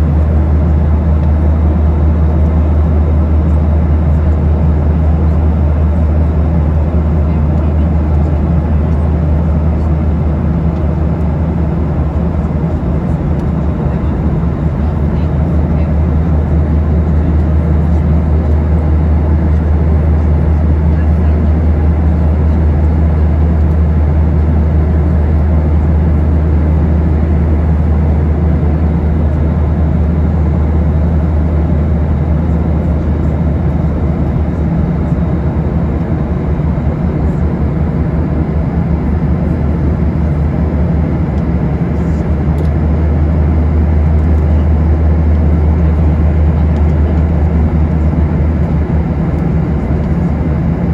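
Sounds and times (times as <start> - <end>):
jet engines humming: 0.0 - 50.9
air rushing along fuselage: 5.6 - 50.9.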